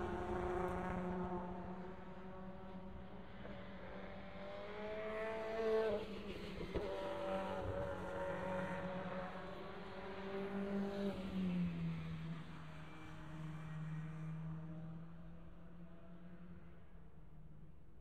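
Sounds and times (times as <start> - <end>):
race car passing at speed: 0.0 - 16.8
drone of distant race engines: 0.0 - 18.0.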